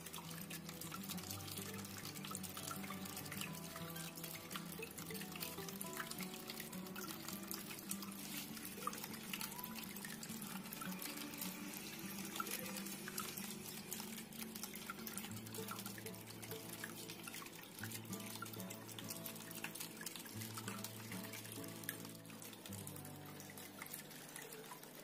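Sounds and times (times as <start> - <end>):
soft background music: 0.0 - 25.0
water dripping: 0.0 - 25.0
water trickling in fountain: 0.0 - 25.0.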